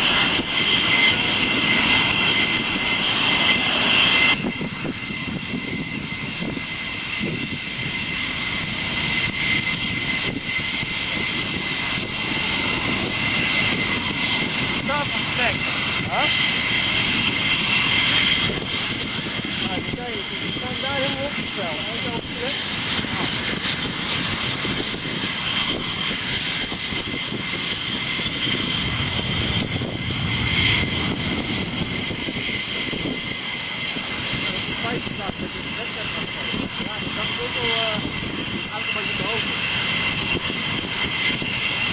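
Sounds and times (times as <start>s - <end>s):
jet engines whining and rumbling: 0.0s - 41.9s.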